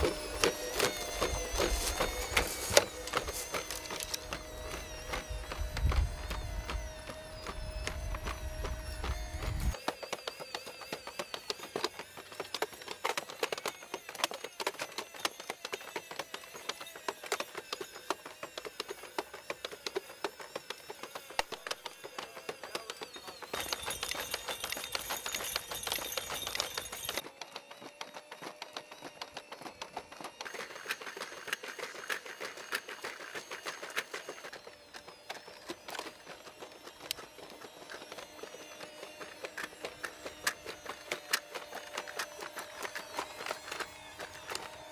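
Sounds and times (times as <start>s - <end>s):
mechanical whine: 0.0s - 44.9s.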